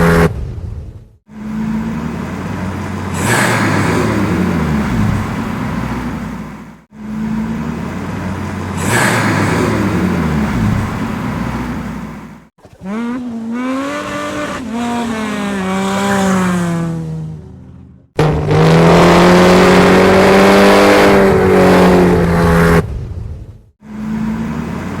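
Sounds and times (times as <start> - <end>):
car engine revving: 0.0 - 0.4, 1.4 - 22.9.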